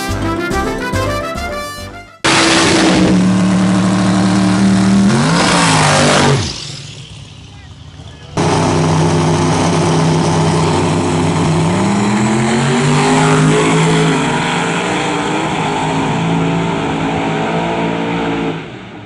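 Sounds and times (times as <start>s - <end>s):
drag cars accelerating: 2.2s - 19.0s.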